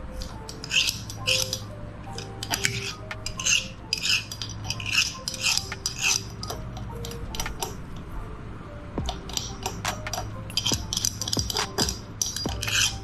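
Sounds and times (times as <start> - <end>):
metal kitchenware scraping and clinking: 0.1 - 7.8, 9.1 - 13.0.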